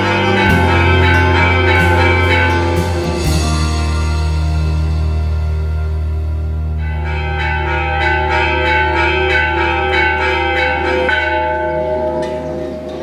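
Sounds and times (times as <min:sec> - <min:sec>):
bells ringing in a peal: 0:00.0 - 0:13.0
steady low drone: 0:00.0 - 0:13.0.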